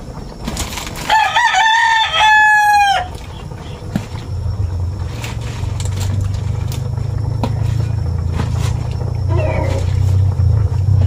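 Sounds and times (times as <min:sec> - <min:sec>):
low rumble: 0:01.8 - 0:11.0.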